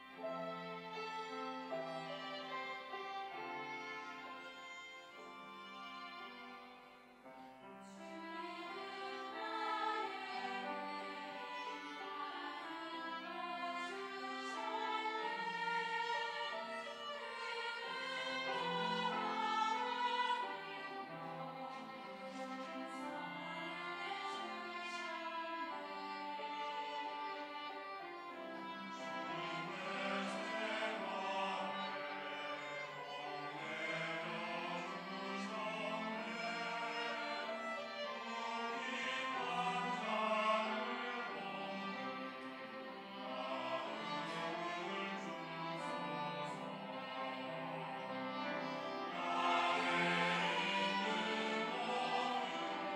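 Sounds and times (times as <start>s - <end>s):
choir singing: 0.0s - 52.9s
musical accompaniment: 0.0s - 52.9s
violin slow melody: 0.0s - 52.9s.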